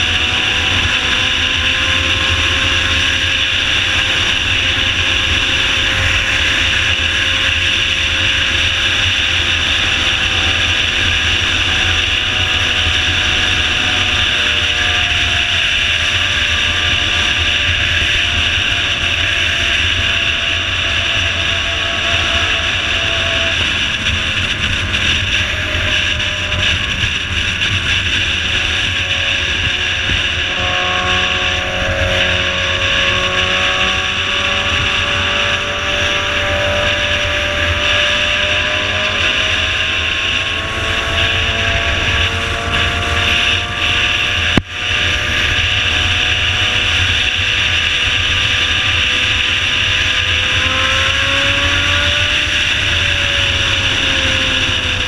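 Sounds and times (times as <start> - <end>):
motorcycle engine droning: 0.0 - 55.0
wind noise: 0.0 - 55.0.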